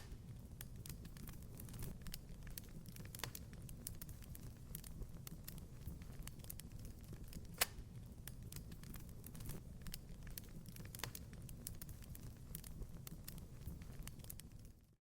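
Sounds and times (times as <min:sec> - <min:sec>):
fire pop: 0:00.0 - 0:14.5
wood fire crackling: 0:00.0 - 0:15.0.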